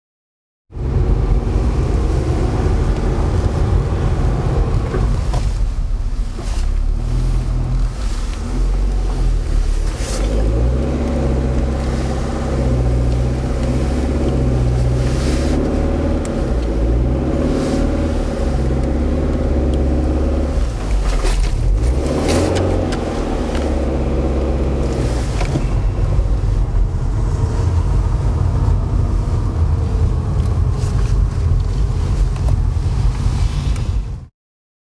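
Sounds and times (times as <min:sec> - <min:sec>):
car engine reversing: 0:00.8 - 0:32.2.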